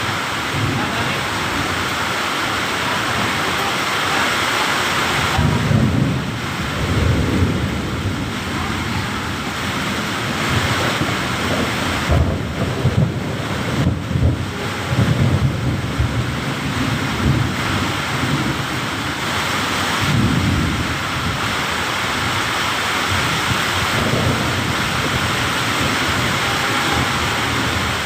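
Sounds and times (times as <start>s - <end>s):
heavy rain pouring: 0.0s - 28.0s
thunder rumbling: 0.0s - 28.0s.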